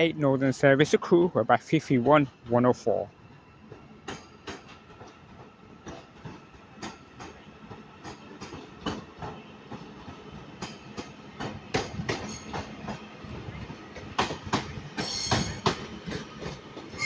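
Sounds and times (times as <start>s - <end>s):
train wheels clicking over rail joints: 3.3s - 17.0s.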